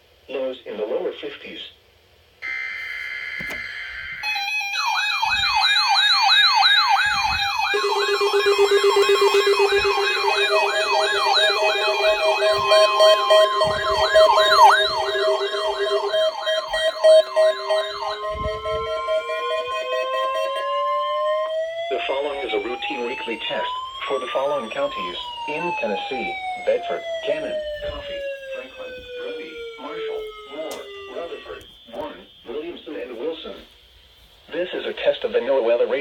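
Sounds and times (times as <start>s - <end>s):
rising tones: 2.4s - 31.6s
sweeping siren-like alert tone: 2.4s - 32.6s
steady beeping tones: 2.4s - 32.7s.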